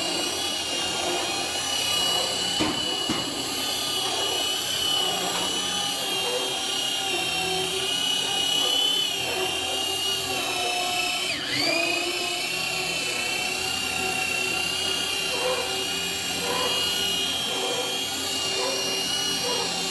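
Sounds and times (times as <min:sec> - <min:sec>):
seaming machine motor whine: 0:00.0 - 0:19.9.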